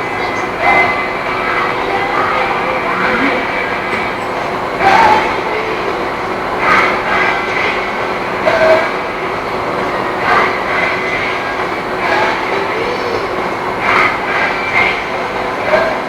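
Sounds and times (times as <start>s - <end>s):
machinery running: 0.0s - 16.0s.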